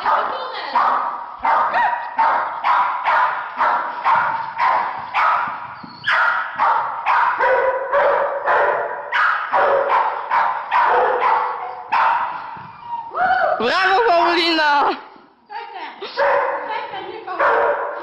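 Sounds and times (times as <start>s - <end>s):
dog barking in a large hall: 0.0s - 13.2s, 16.1s - 18.0s.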